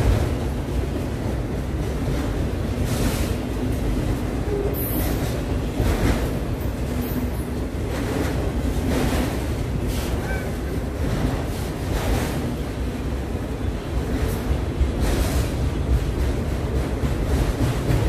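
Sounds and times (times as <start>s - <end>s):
freight train rumbling past: 0.0s - 18.0s
train swishes: 0.0s - 18.0s.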